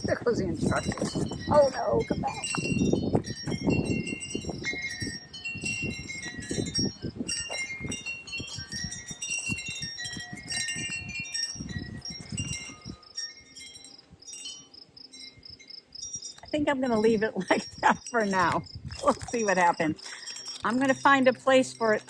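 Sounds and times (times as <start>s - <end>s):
wind chimes tinkling: 0.0s - 22.0s
wind rumbling on microphone: 0.0s - 22.0s.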